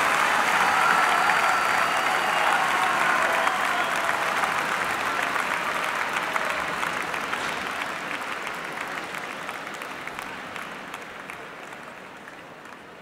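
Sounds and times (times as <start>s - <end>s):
applause: 0.0s - 13.0s.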